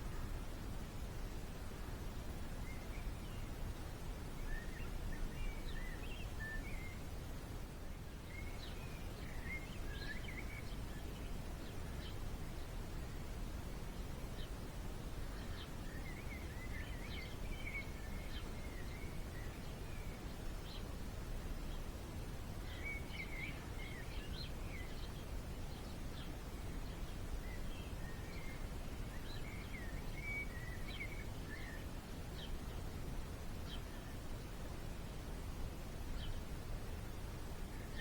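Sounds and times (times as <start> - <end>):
songbird chirping: 0.0 - 38.0.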